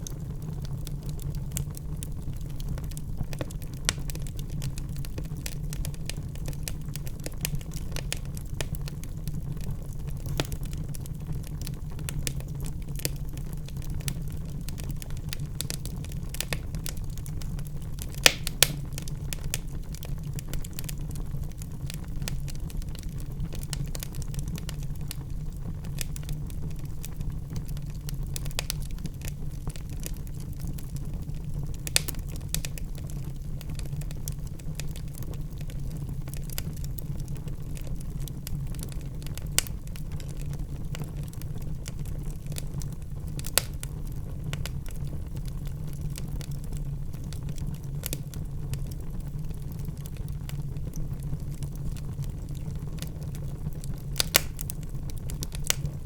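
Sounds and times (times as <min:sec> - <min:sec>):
fire rumbling: 0:00.0 - 0:56.0
logs crackling and popping: 0:00.0 - 0:56.0.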